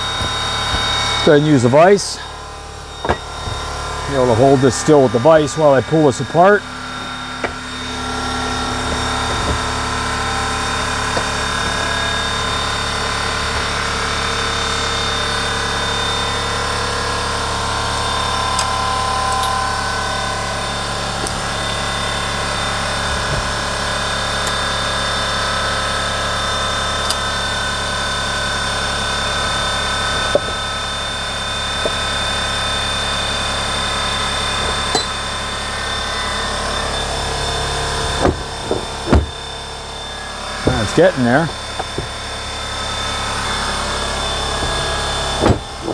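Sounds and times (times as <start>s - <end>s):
air compressor running: 0.0s - 45.9s.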